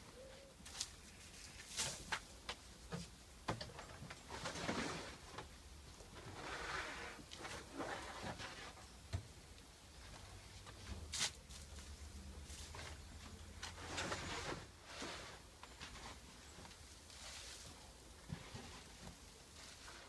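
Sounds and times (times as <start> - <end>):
bedding scraping and rustling: 0.6 - 9.1, 10.0 - 20.0.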